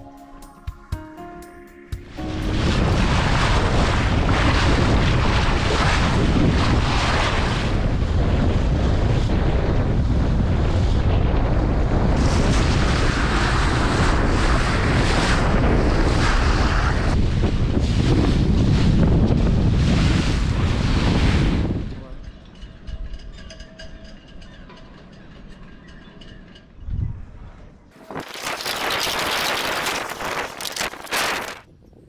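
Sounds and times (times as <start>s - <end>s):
wind buffeting microphone: 2.2s - 23.5s, 26.8s - 32.0s.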